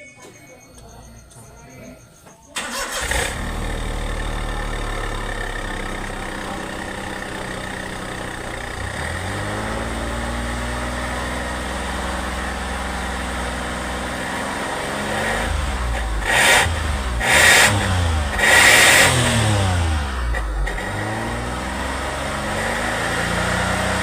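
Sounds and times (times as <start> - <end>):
engine idling with deep rumble: 2.6 - 24.0.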